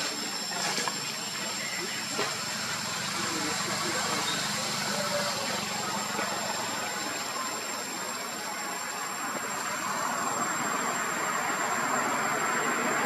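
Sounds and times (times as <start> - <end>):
steady background noise: 0.0 - 13.0
thin high-pitched whine: 0.0 - 13.0.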